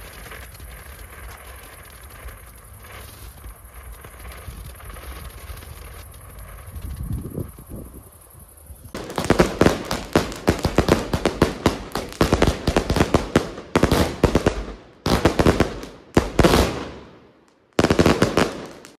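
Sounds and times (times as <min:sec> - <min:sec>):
firework bursts hissing: 0:00.0 - 0:19.0
fireworks cracks and bangs: 0:00.0 - 0:19.0.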